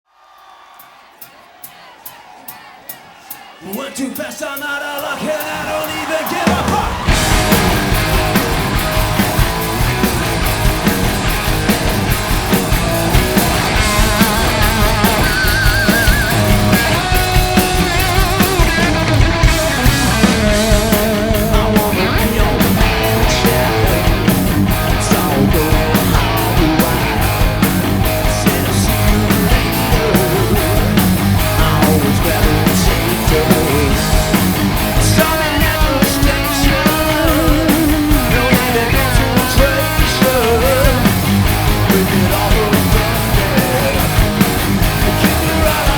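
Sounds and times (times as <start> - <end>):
hard rock band playing live: 3.7 - 45.9
distorted electric guitars: 5.0 - 45.9.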